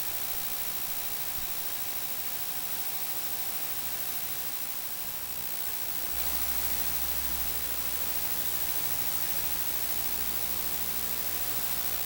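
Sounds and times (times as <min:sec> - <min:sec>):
faint steady tone: 0:00.0 - 0:12.0.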